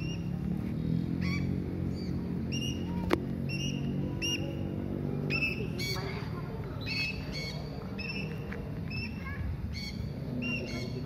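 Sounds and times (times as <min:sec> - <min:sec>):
parakeets calling: 0:00.0 - 0:00.4, 0:01.0 - 0:11.0.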